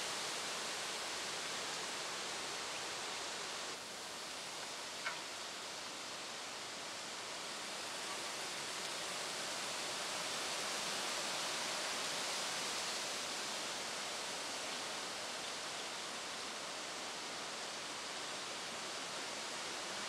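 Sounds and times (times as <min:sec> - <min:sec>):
rushing outdoor noise: 0:00.0 - 0:20.0.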